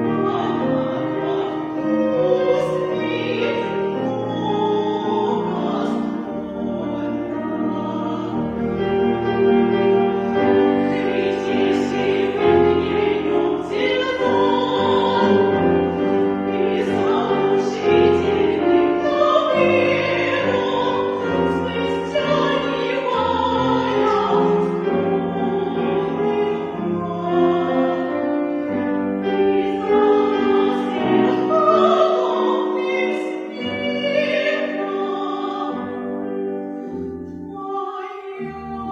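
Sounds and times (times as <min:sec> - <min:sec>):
operatic singing with vibrato: 0:00.0 - 0:36.6, 0:37.3 - 0:38.9
held classical accompaniment: 0:00.0 - 0:38.9.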